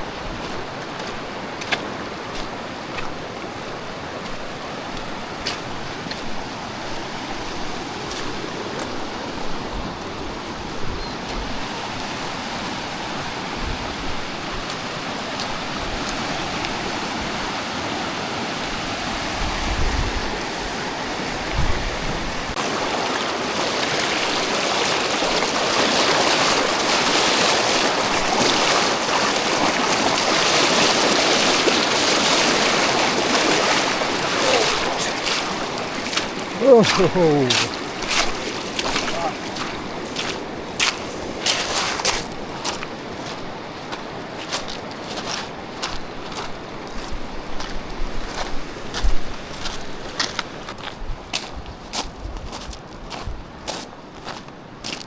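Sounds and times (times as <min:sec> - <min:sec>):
rushing river water: 0:00.0 - 0:52.2.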